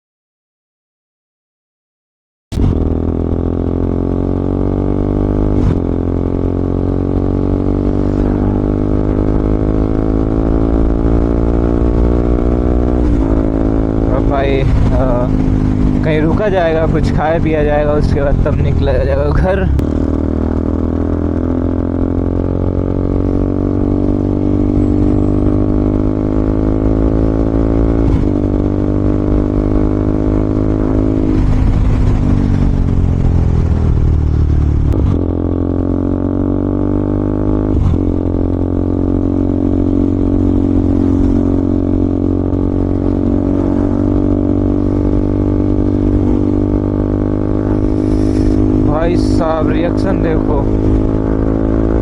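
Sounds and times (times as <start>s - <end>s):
motorcycle engine running: 2.6s - 52.0s.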